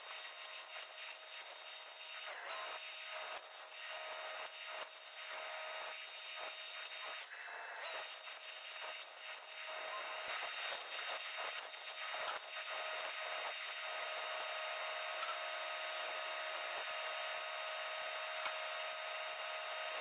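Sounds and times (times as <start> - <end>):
arc welding crackle: 0.0 - 20.0.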